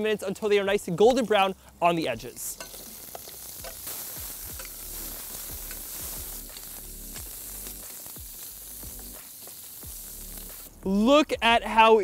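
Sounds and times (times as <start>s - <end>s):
sausage sizzling in hot oil: 0.0s - 11.8s.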